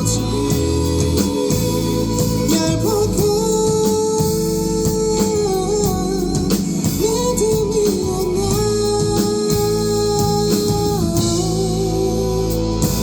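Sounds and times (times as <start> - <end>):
drum beat: 0.0 - 11.6
guitar: 0.0 - 13.0
person singing: 0.0 - 13.0.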